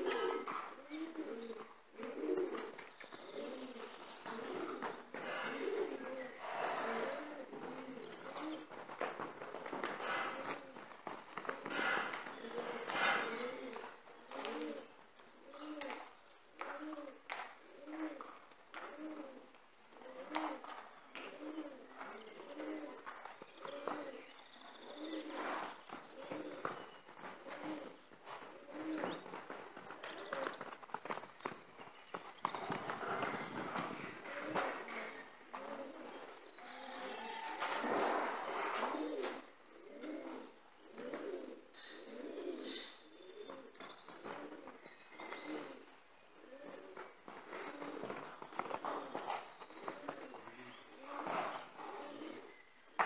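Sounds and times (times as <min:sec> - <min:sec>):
pigeon cooing: 0:00.0 - 0:31.6, 0:32.2 - 0:53.0.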